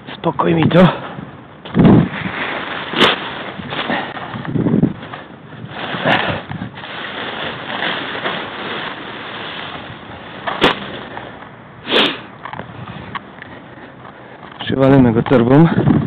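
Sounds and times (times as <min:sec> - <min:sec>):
nylon canopy rustling: 0:00.0 - 0:15.7.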